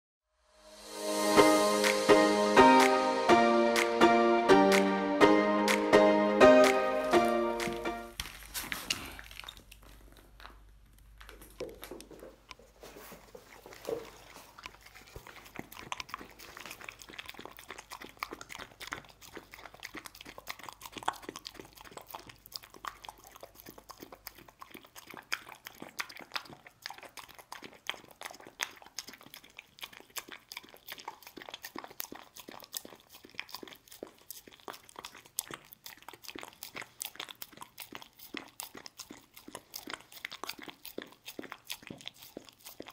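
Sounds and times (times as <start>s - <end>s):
dog licking and eating: 6.6s - 42.9s.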